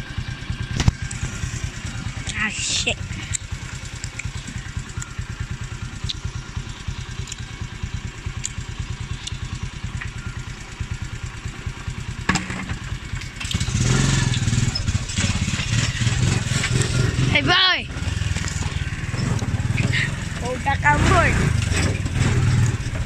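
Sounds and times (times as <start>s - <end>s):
small motorcycle engine running: 0.0s - 23.0s.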